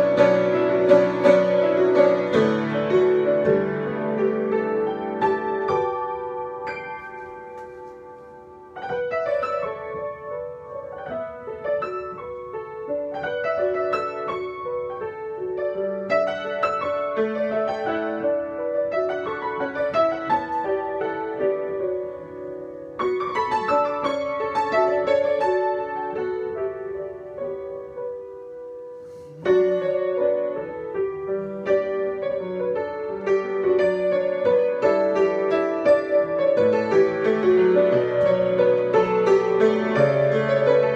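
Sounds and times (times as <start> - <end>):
solo piano improvisation: 0.0 - 40.9.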